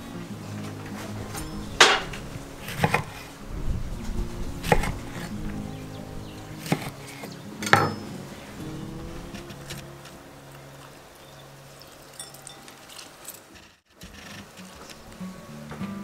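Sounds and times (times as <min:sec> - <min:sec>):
background music: 0:00.0 - 0:12.7, 0:14.6 - 0:16.0.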